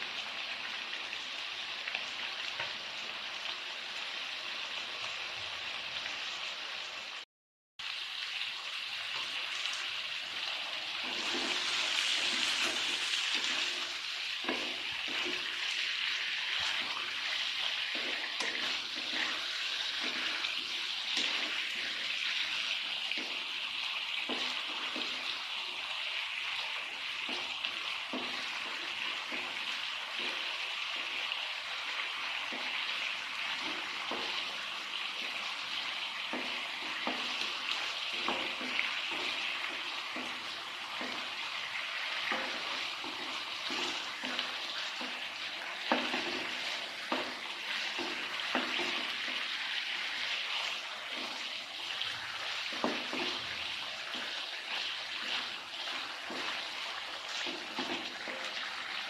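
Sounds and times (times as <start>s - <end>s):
food sizzling in a pan: 0.0s - 7.2s, 7.8s - 59.0s.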